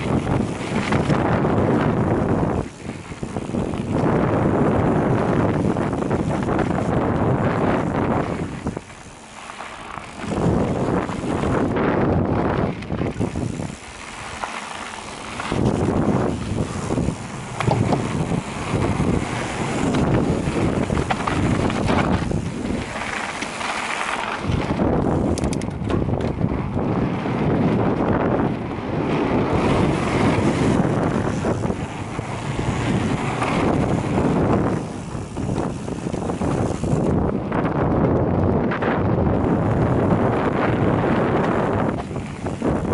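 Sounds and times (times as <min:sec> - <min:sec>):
tyres rumbling on dirt trail: 0:00.0 - 0:42.9
wind buffeting microphone: 0:00.0 - 0:42.9.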